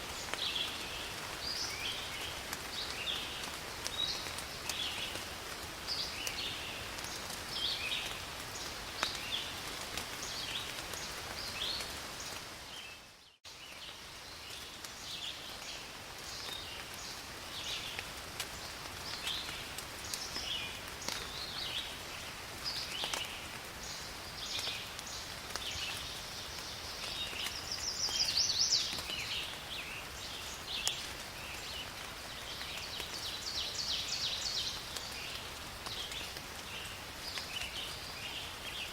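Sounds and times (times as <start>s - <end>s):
rain on foliage: 0.0s - 38.9s.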